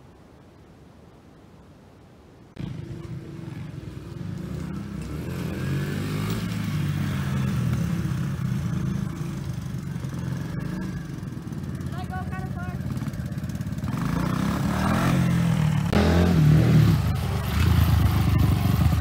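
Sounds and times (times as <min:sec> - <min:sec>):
motorbike engine revving: 0:02.6 - 0:19.0.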